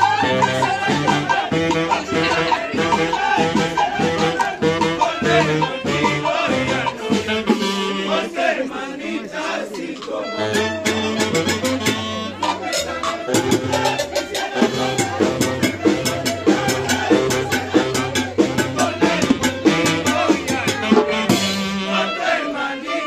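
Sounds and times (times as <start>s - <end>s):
shaker beat: 0.0s - 8.2s, 9.5s - 21.3s
salsa band playing: 0.0s - 23.0s.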